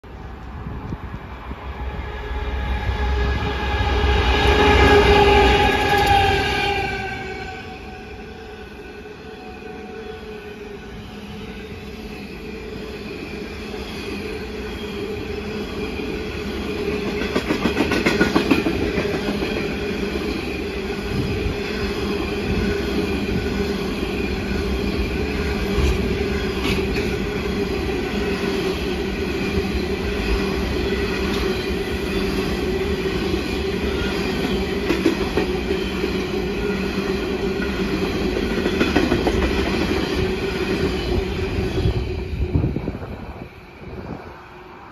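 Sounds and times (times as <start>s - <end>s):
train wagons rumbling past: 0.0s - 44.9s.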